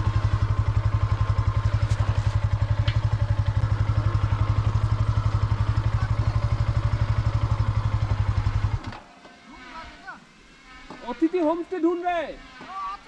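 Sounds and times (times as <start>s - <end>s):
motorcycle engine at low revs: 0.0s - 11.6s.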